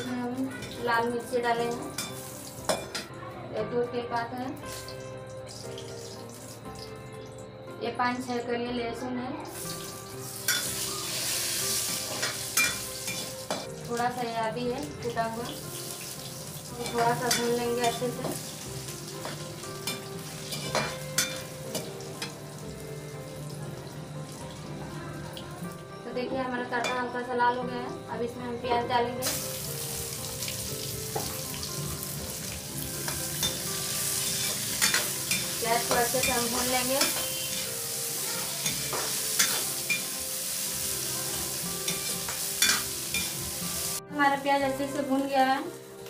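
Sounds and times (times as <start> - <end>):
spices sizzling in hot oil: 0.0 - 3.0, 4.6 - 7.0, 9.4 - 24.8, 29.2 - 46.0.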